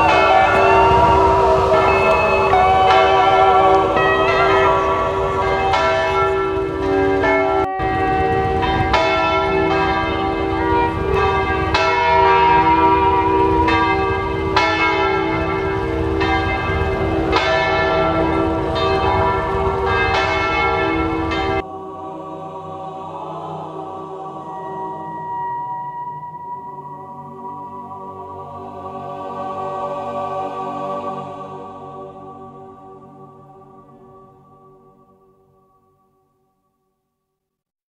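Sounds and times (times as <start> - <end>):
church bells ringing: 0.0 - 36.4.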